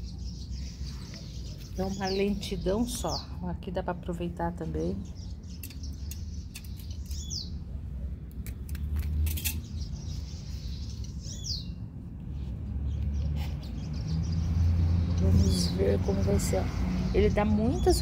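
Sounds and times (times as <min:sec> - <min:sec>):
bird chirping: 0:00.0 - 0:03.4, 0:04.7 - 0:07.8, 0:08.5 - 0:18.0.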